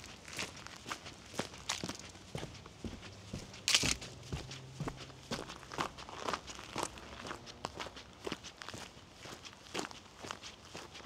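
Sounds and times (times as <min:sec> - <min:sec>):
footsteps on woodland trail: 0:00.0 - 0:11.0.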